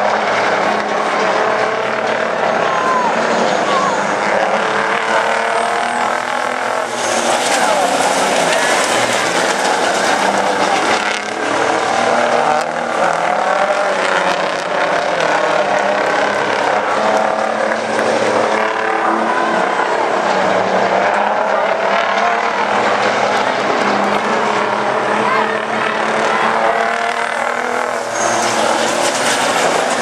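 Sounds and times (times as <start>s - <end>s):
truck diesel engines racing: 0.0s - 30.0s.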